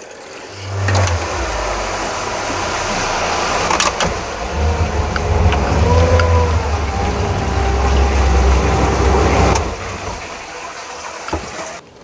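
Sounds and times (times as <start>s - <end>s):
rush of wake water: 0.0s - 12.0s
wind: 0.0s - 12.0s
outboard motor running: 0.4s - 11.8s.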